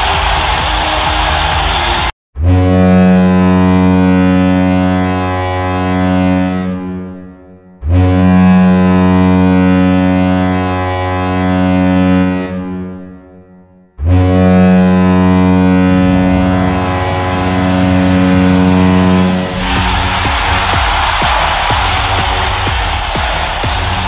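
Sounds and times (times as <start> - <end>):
deep air horn blasts: 0.0 - 24.0.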